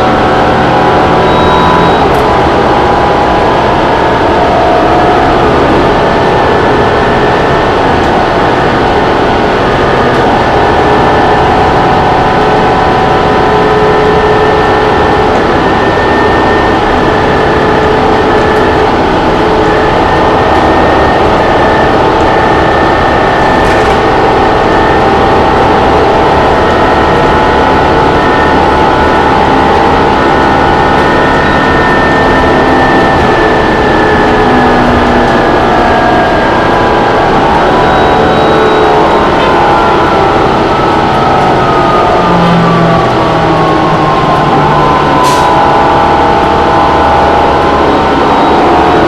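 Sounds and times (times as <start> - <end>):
bus diesel engine running: 0.0 - 49.0
road rumble: 0.0 - 49.0
whining tones: 0.0 - 49.0.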